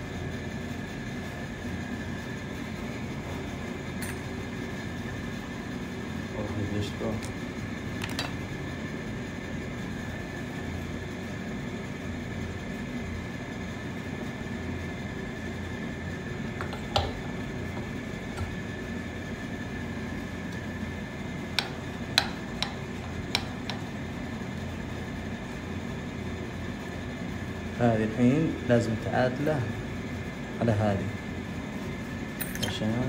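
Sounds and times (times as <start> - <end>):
room hum: 0.0 - 33.0.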